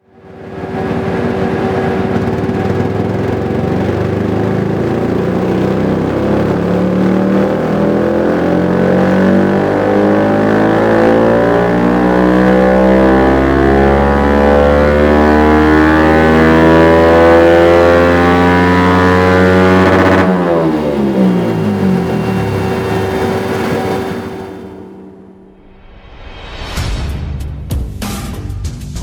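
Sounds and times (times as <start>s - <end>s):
motorcycle engine revving under load: 0.1s - 25.6s.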